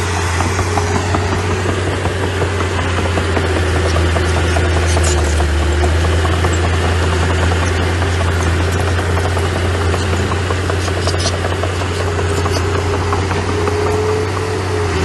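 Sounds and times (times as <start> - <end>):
small machine engine humming: 0.0 - 15.0
light ticks and rattles: 0.1 - 14.8.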